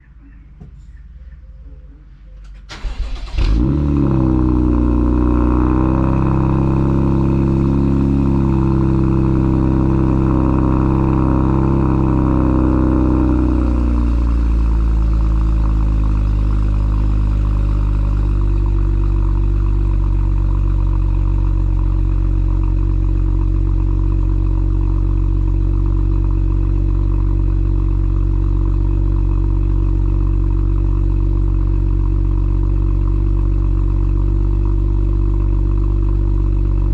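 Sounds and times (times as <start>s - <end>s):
car engine starting and idling: 0.2s - 36.9s.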